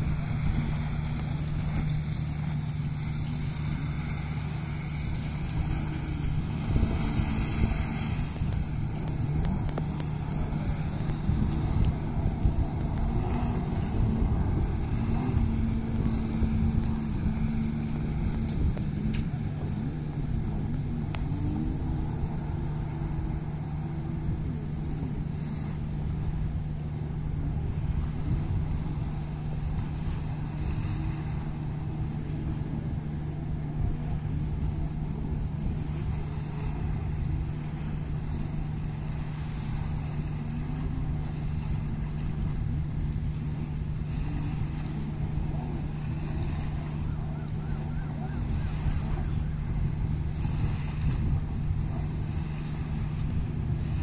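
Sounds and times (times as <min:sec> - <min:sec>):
jet ski engines running: 0:00.0 - 0:54.0.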